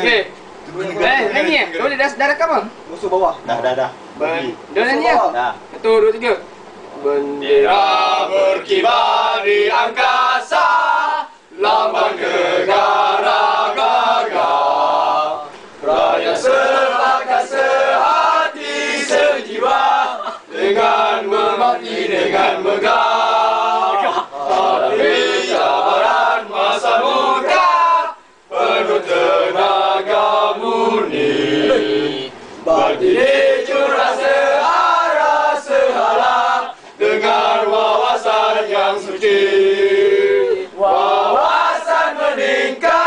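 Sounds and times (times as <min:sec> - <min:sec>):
men singing in chorus: 0:07.5 - 0:43.0.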